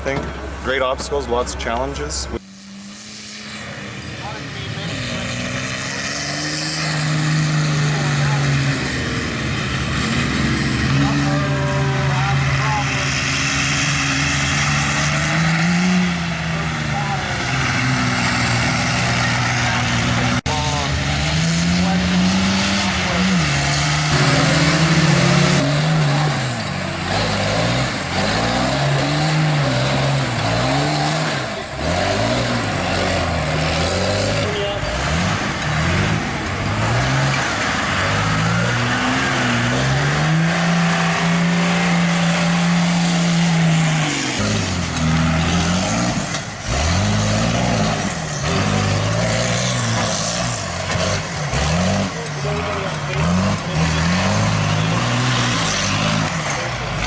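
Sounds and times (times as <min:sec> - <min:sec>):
race truck engine revving: 0:00.0 - 0:57.0.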